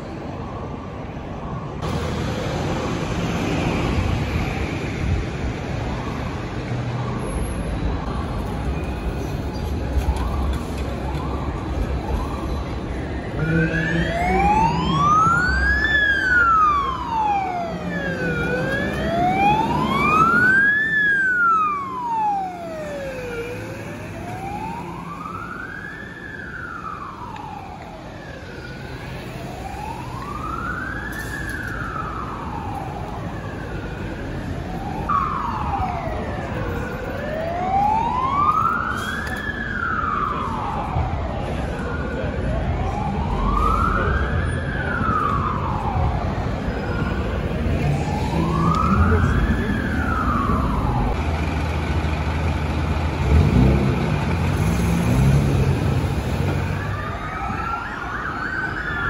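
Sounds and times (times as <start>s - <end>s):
fire engine siren wailing: 0.0s - 59.0s
traffic rumble: 0.0s - 59.0s.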